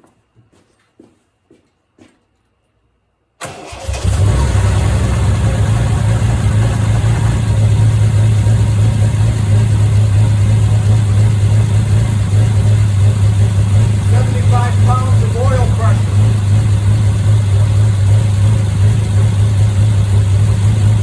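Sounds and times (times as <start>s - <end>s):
car engine cranking and running: 3.4s - 21.0s.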